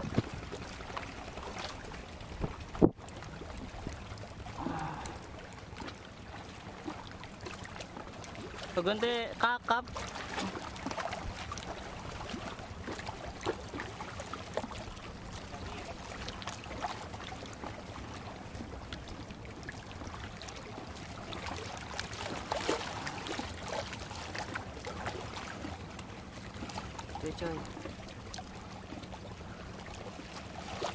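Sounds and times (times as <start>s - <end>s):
seawater lapping against concrete: 0.0s - 30.9s
small water splashes: 0.0s - 30.9s.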